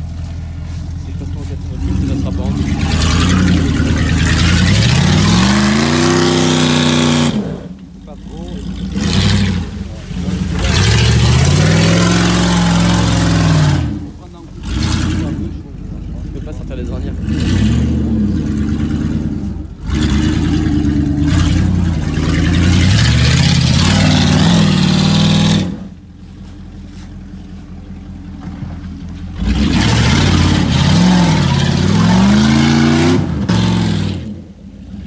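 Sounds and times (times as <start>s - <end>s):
engine revving hard: 1.7s - 15.7s, 16.6s - 25.9s, 29.4s - 34.4s.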